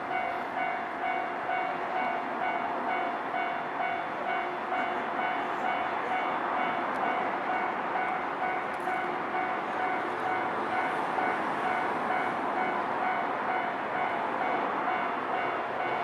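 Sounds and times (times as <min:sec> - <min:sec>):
electric train rumbling: 0:00.0 - 0:16.0
level crossing warning bell: 0:00.0 - 0:16.0.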